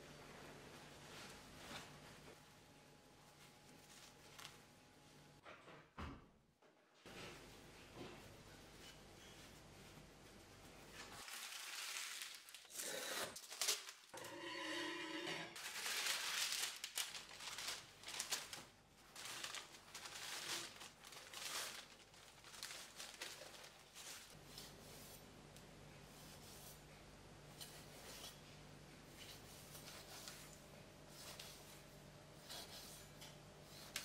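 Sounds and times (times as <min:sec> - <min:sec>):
baking paper rustling: 0:00.1 - 0:05.2, 0:07.1 - 0:14.2, 0:15.6 - 0:25.3, 0:27.7 - 0:34.0.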